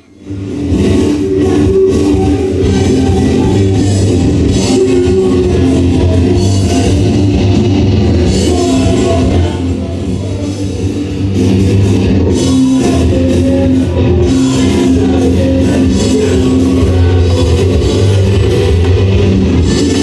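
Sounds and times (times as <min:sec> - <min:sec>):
loud rock music with guitar and drums: 0:00.0 - 0:20.0.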